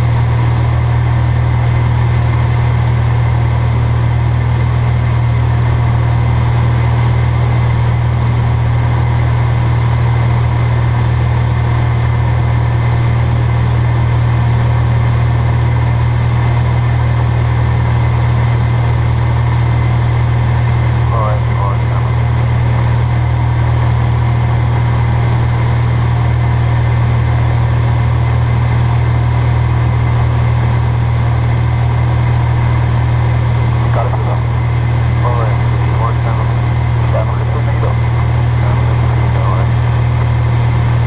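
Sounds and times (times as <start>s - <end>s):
light aircraft engine droning: 0.0s - 41.0s.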